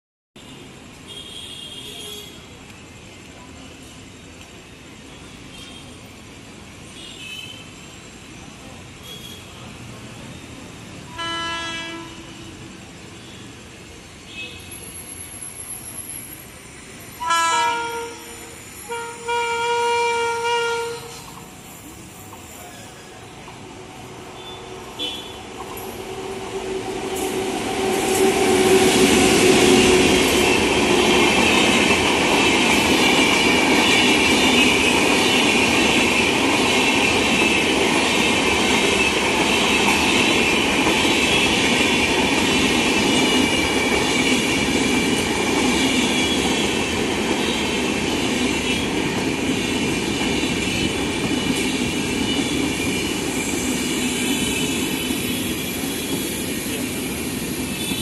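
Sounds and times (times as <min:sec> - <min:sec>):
train passing at speed: 0:00.4 - 0:58.0
wheels rushing on rail: 0:00.5 - 0:58.0.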